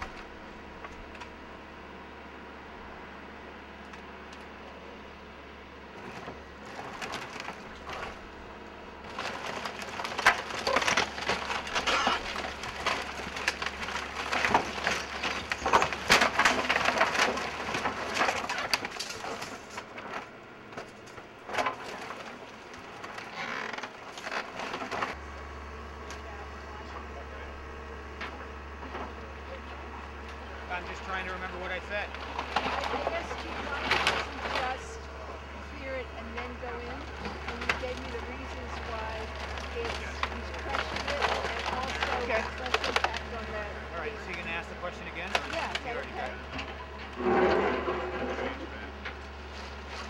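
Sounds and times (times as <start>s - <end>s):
low steady hum: 0.0s - 50.0s
wood cracking and splintering: 6.0s - 25.2s, 28.3s - 50.0s.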